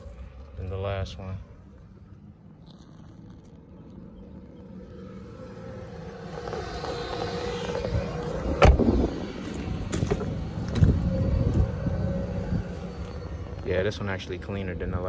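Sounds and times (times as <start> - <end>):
motor vehicle running: 0.0 - 15.0.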